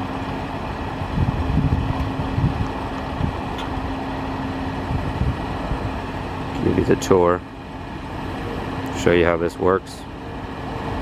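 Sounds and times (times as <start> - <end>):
low rumbling: 0.0 - 11.0.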